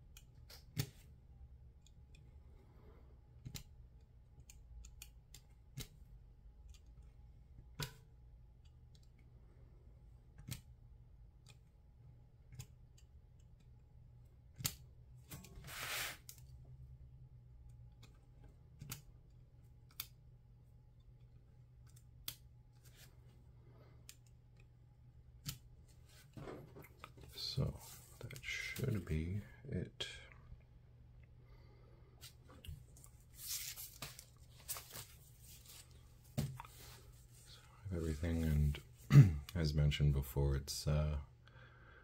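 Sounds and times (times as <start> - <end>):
steady low hum: 1.0 - 42.0.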